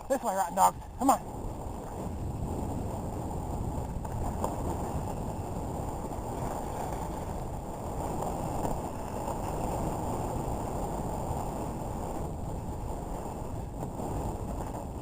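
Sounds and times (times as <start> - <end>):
dog sled rushing: 0.0 - 15.0
wind buffeting microphone: 0.0 - 15.0.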